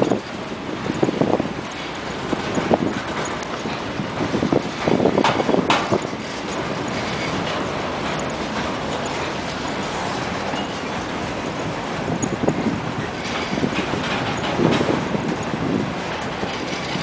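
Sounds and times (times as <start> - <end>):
freight train wheels clattering: 0.0 - 17.0.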